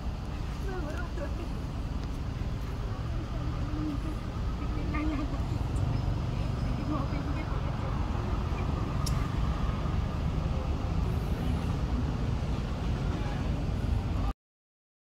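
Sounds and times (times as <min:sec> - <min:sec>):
low outdoor rumble: 0:00.0 - 0:14.3.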